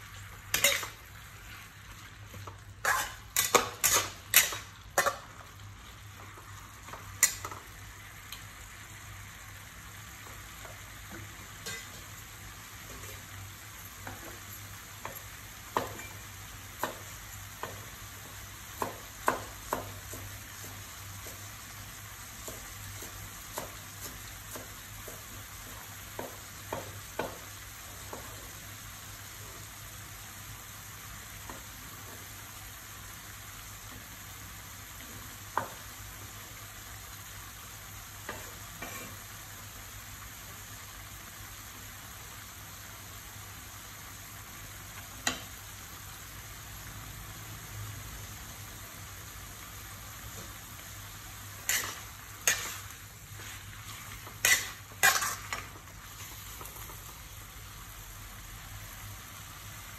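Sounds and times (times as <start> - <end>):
greens sizzling in a wok: 0.0 - 59.9.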